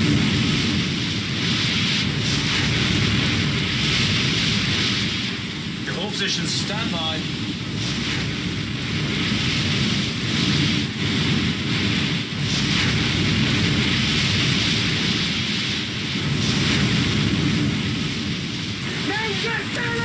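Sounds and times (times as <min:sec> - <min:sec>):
rushing wind and sea: 0:00.0 - 0:20.0
wind buffeting microphone: 0:00.0 - 0:20.0.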